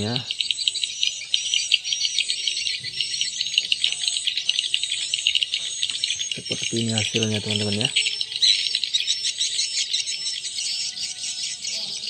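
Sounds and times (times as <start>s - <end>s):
recorded swiftlet chirping: 0.0s - 12.0s.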